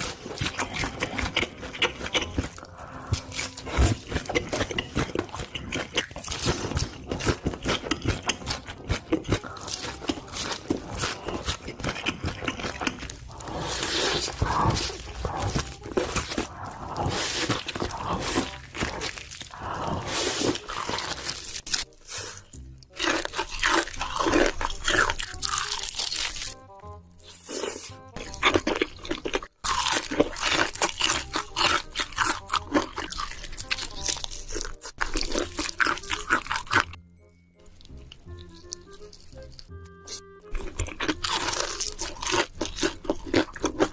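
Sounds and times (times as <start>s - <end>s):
person biting and chewing food: 0.0s - 37.0s, 37.6s - 43.9s
quiet background music: 0.0s - 43.9s.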